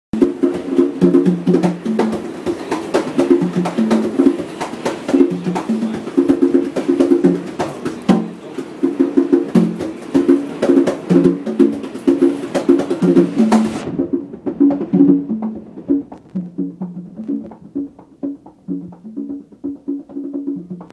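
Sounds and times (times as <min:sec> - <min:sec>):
conga drums played by hand: 0:00.1 - 0:20.9.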